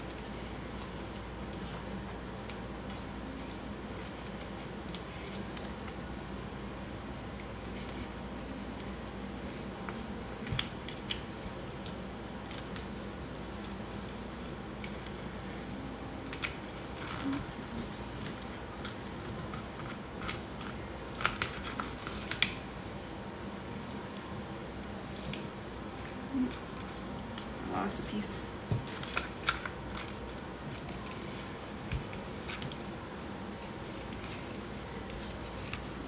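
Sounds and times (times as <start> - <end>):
vinyl sheets crinkling and rustling: 0.0 - 36.0.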